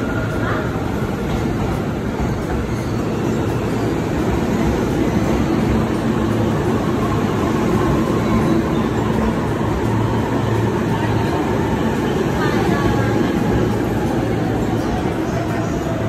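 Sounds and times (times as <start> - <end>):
electric train rumble and hum: 0.0 - 16.0.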